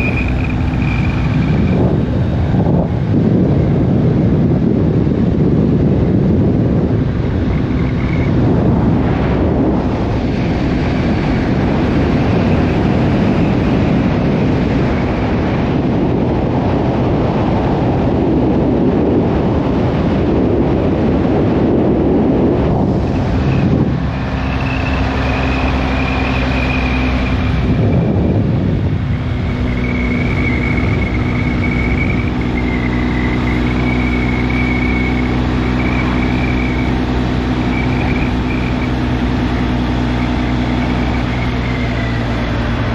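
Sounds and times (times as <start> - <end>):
motorcycle engine drone: 0.0 - 42.9
wind rush: 0.0 - 42.9.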